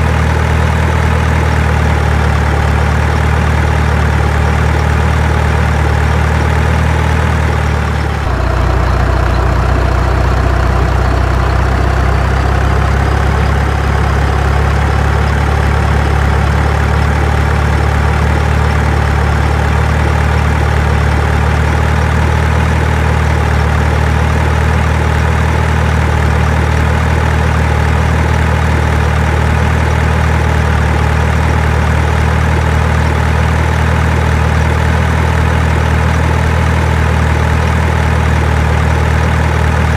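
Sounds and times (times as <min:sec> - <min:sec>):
heavy vehicle engine idling: 0:00.0 - 0:39.9.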